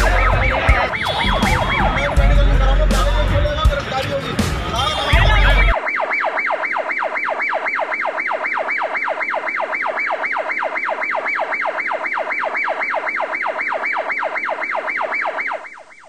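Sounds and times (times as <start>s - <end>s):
siren yelping: 0.0s - 16.0s.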